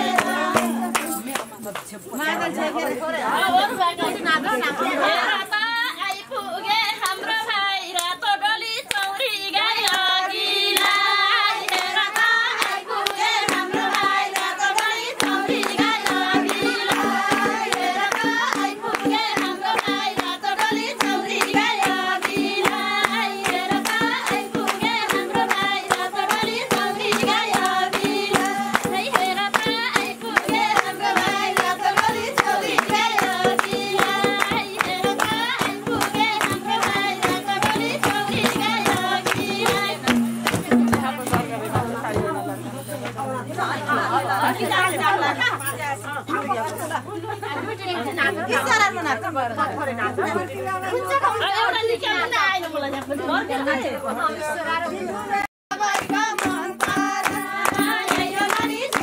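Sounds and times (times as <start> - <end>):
rhythmic hand-clapping: 0.0 - 46.8, 52.6 - 53.9, 55.7 - 59.0
women singing together: 0.0 - 59.0.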